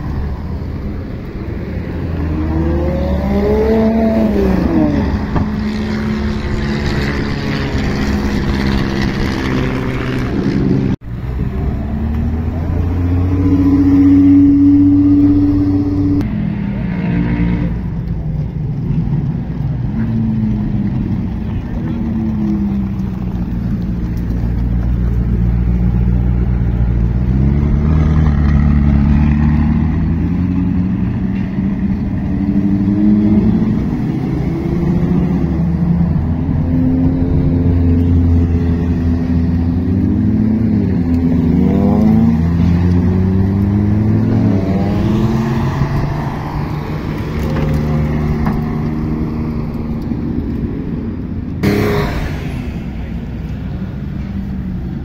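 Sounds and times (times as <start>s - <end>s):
sports car engines revving: 0.0s - 55.0s.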